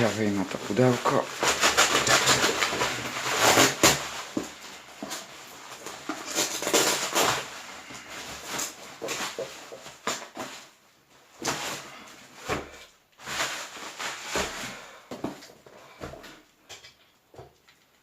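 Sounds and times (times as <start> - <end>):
cardboard and plastic wrap rustling: 0.0 - 18.0.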